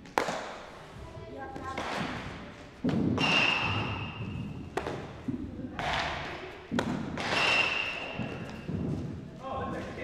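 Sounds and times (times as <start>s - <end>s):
baseballs thudding on floor and gloves: 0.0s - 0.6s, 1.6s - 9.2s.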